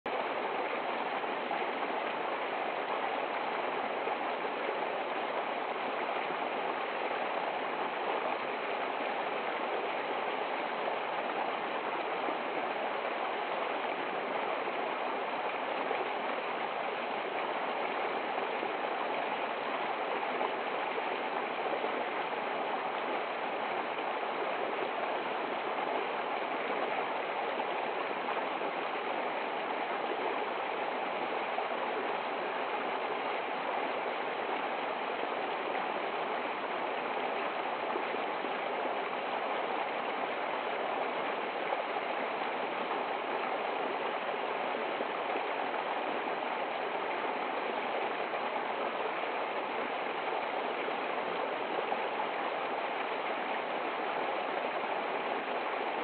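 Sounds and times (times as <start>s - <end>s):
stream splashing over rocks: 0.1s - 56.0s.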